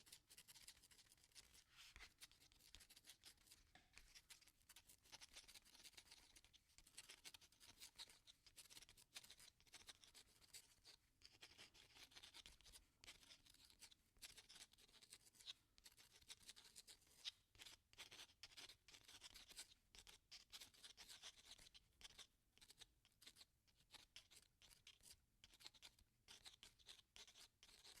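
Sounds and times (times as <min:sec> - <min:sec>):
pen scratching while writing: 0:00.2 - 0:23.4, 0:24.2 - 0:28.0.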